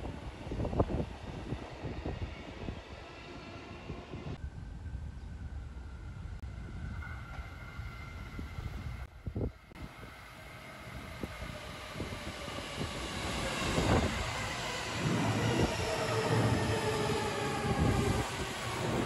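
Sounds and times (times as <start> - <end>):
train wheels rumbling: 0.0 - 19.0
train whine: 0.0 - 19.0.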